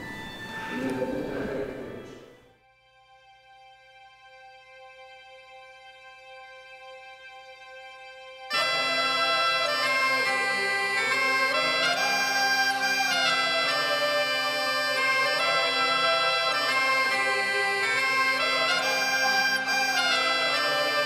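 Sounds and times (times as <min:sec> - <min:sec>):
bagpipe music: 0:00.0 - 0:21.0.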